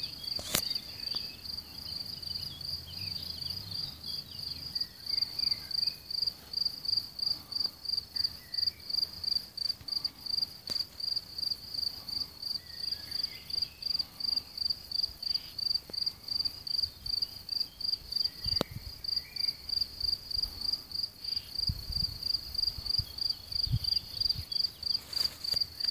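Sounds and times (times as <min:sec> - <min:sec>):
cricket chirping: 0:00.0 - 0:25.9.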